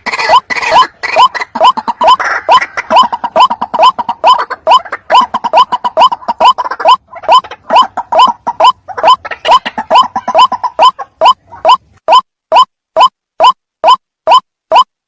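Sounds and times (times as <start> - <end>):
waterhen calling: 0.0 - 14.9.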